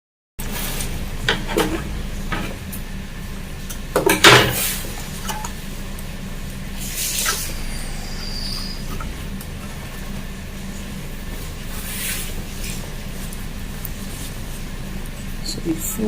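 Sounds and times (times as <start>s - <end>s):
steady low hum: 0.4s - 16.0s.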